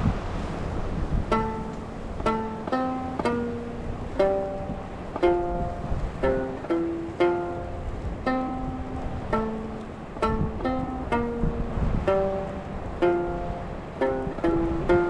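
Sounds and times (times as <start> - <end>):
lute plucked notes melody: 0.8 - 15.0.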